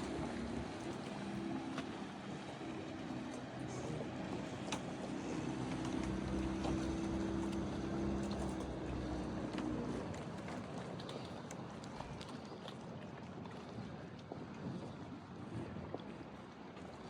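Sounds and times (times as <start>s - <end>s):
motorboat engine humming: 0.0s - 17.0s.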